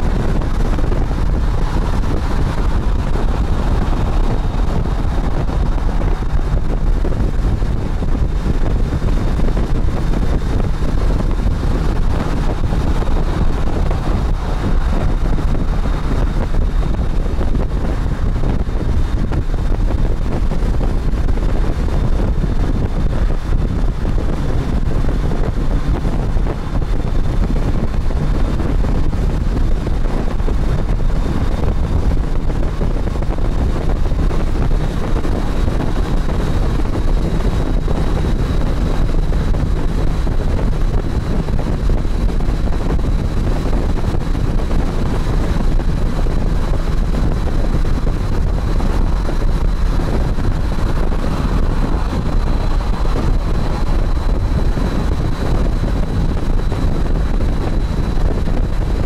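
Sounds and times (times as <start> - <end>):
motorcycle running: 0.0 - 59.0
wind buffeting microphone: 0.0 - 59.0.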